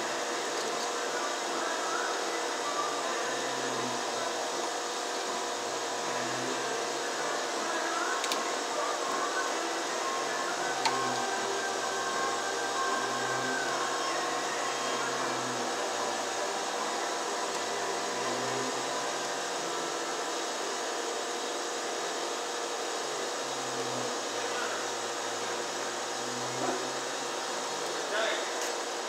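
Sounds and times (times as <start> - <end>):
machine droning: 0.0 - 29.0.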